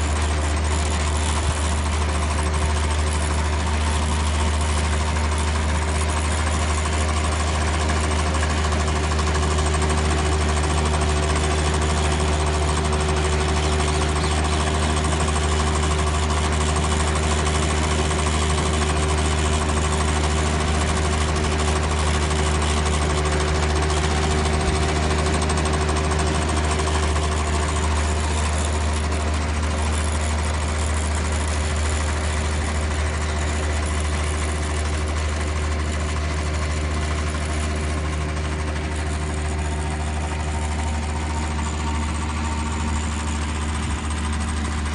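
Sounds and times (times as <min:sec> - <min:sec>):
small petrol engine running: 0:00.0 - 0:44.9.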